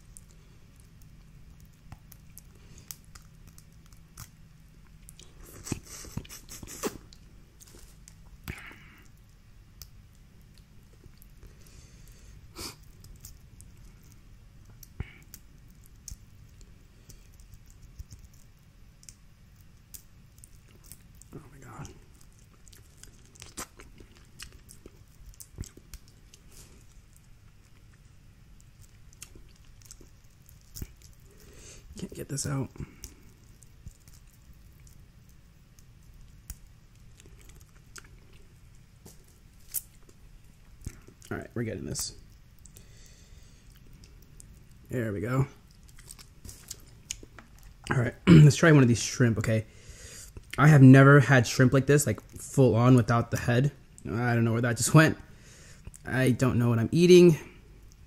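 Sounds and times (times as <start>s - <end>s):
crawfish shells cracking: 0.0s - 44.9s, 45.6s - 48.2s
quiet chewing: 0.0s - 48.2s, 57.4s - 58.0s.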